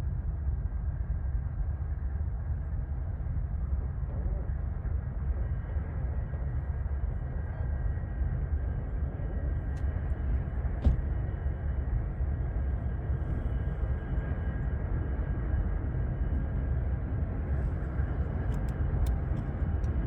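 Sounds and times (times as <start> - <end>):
diesel locomotive rumble: 0.0 - 20.0.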